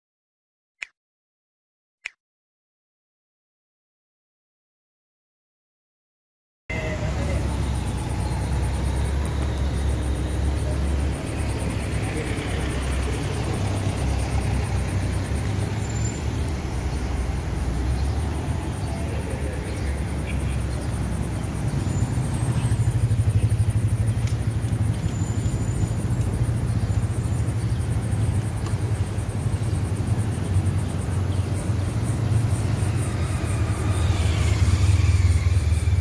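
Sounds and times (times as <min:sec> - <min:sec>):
cars driving slowly past: 0:06.7 - 0:36.0.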